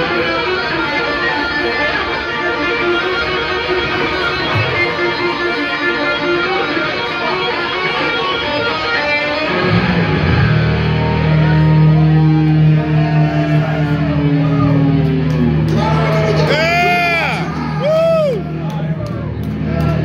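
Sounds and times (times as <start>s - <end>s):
live band playing loudly: 0.0s - 17.8s
electric guitar: 0.0s - 20.0s.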